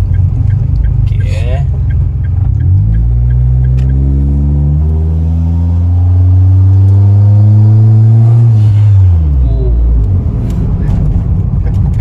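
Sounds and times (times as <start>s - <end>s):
turbocharged car engine accelerating: 0.0s - 12.0s.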